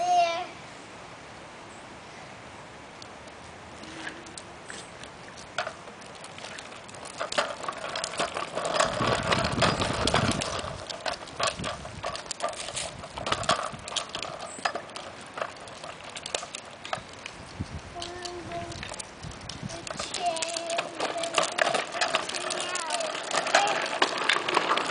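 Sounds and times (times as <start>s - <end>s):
plastic wheels rattling on concrete: 3.7s - 24.9s.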